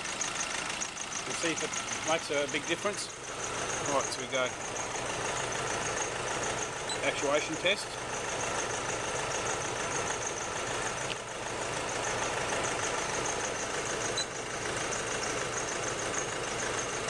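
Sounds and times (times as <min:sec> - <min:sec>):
diesel engine idling roughly: 0:00.0 - 0:17.0.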